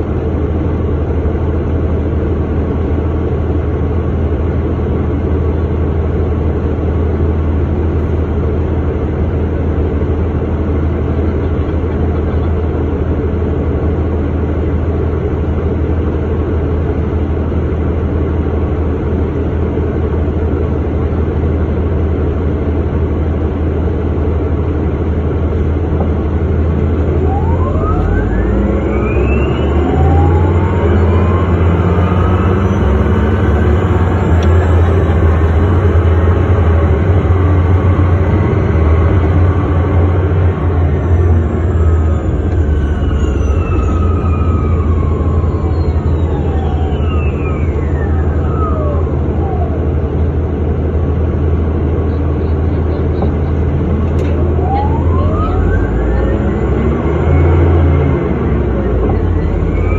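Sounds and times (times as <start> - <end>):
bus engine low drone: 0.0 - 59.9.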